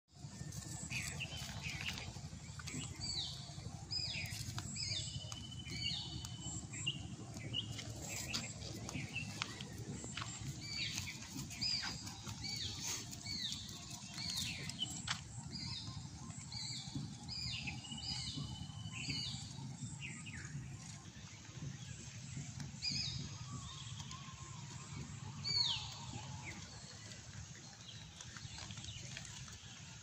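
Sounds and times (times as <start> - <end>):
steady low rumble: 0.2 - 30.0.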